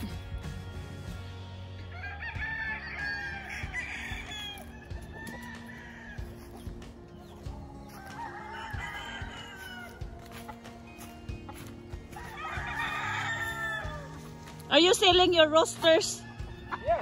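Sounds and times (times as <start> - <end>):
roosters crowing: 0.0 - 14.9, 15.6 - 17.0
background music: 0.0 - 17.0.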